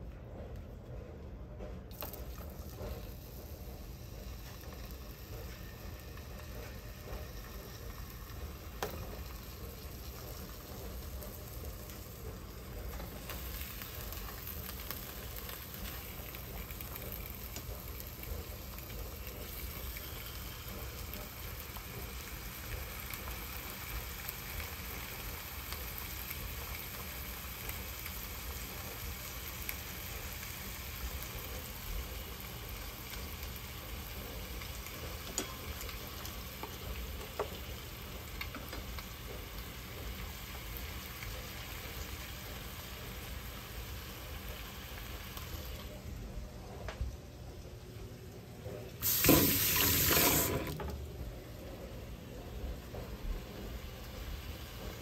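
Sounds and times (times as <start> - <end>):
fish sizzling in a pan: 3.1 - 45.7, 49.0 - 50.8.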